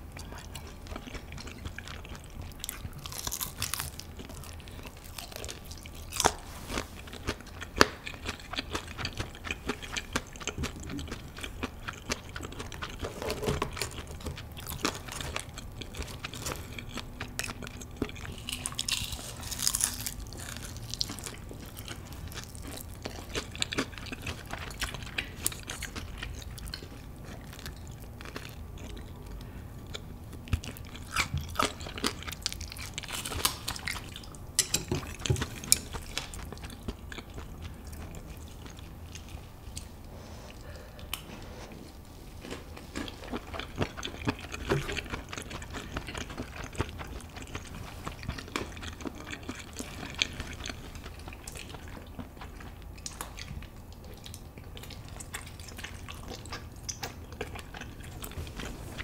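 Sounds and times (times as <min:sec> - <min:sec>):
crunching and chewing fried chicken: 0:00.0 - 0:59.0.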